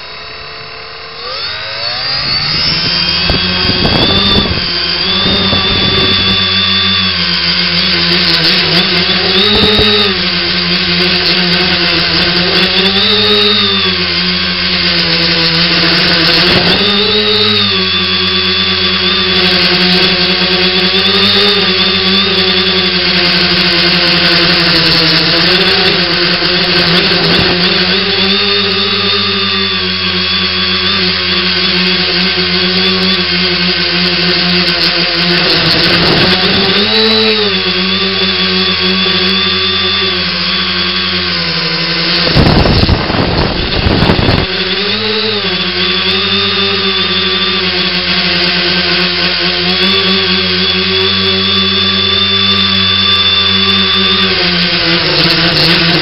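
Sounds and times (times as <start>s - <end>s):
drone motors whirring: 0.0s - 56.0s.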